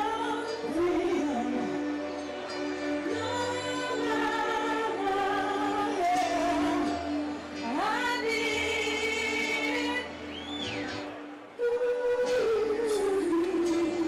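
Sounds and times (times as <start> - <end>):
woman singing: 0.0 - 2.2, 2.8 - 10.5, 11.5 - 14.0
backing music: 0.0 - 14.0.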